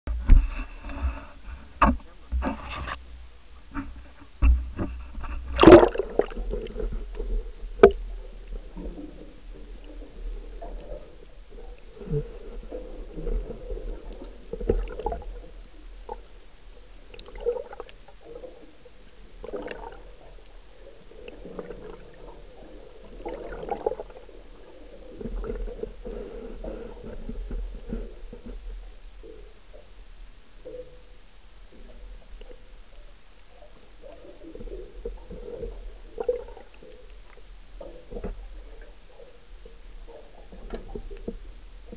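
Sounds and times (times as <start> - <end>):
muffled underwater gurgling: 4.5 - 41.9.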